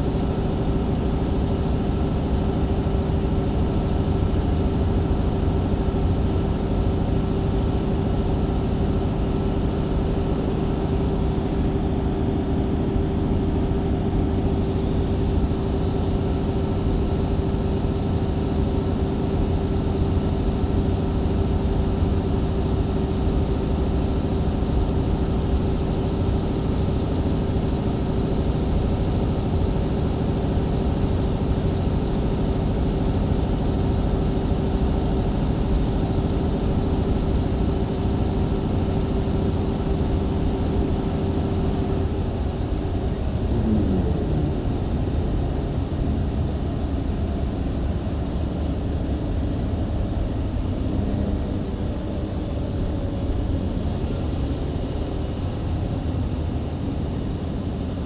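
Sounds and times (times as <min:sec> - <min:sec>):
bus engine running: 0:00.0 - 0:58.0
road rumble: 0:00.0 - 0:58.0.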